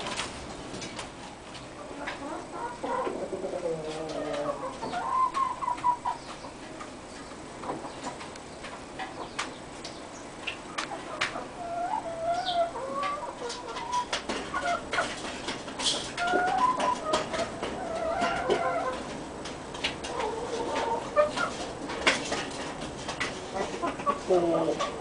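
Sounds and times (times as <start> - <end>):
hens clucking: 1.5 - 25.0.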